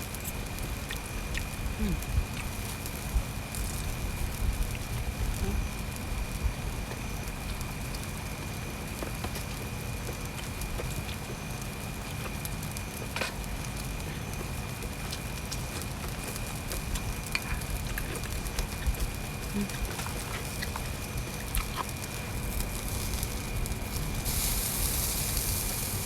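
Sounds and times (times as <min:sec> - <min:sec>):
rain pattering on a tarp: 0:00.0 - 0:26.0.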